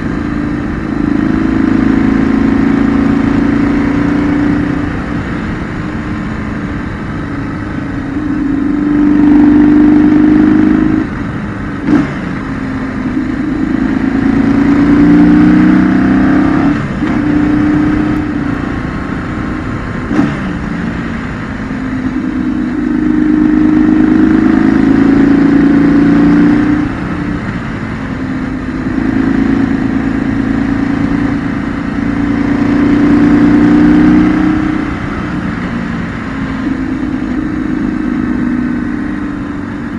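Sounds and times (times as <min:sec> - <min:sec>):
motorcycle engine under throttle: 0:00.0 - 0:39.9.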